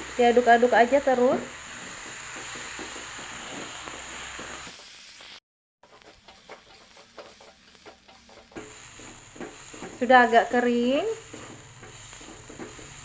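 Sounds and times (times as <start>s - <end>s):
food sizzling in a frying pan: 0.0s - 13.0s
spatula scraping a pan: 1.6s - 13.0s.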